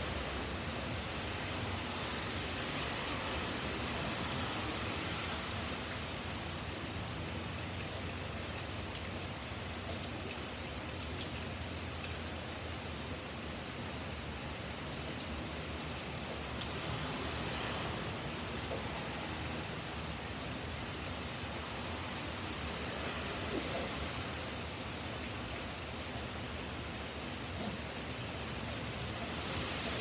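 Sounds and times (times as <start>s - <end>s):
rain hissing on pavement: 0.0s - 30.0s.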